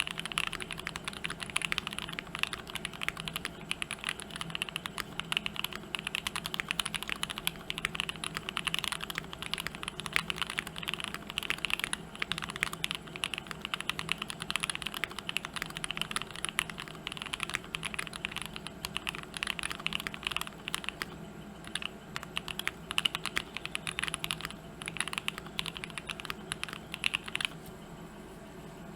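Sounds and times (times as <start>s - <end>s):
mechanical keyboard typing: 0.0s - 27.6s.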